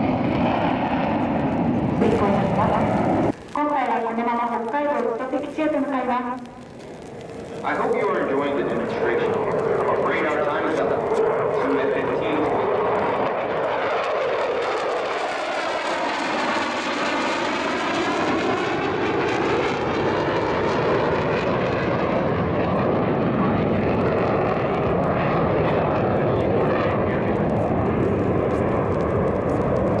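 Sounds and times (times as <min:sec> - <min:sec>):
jet engines roaring in flight: 0:00.0 - 0:30.0.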